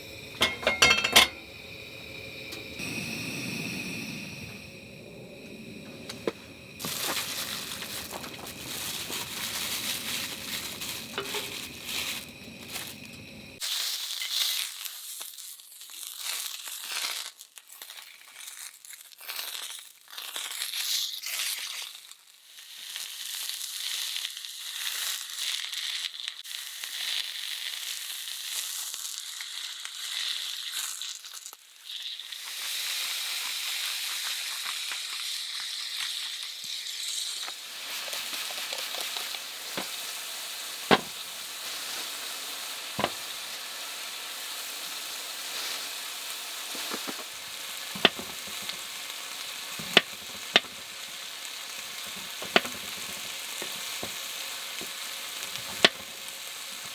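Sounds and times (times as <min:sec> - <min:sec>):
food sizzling in a pan: 0:00.0 - 0:56.9.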